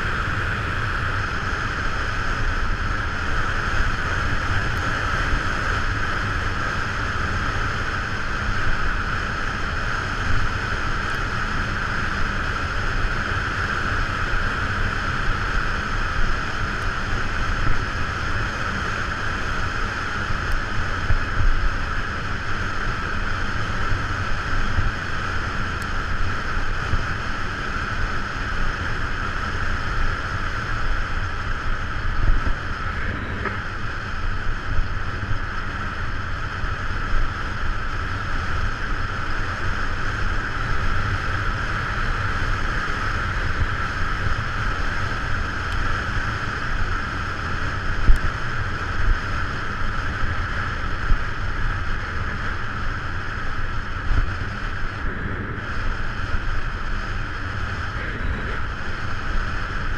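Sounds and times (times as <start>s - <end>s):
low road rumble: 0.0s - 59.9s
wind rush on microphone: 0.0s - 59.9s.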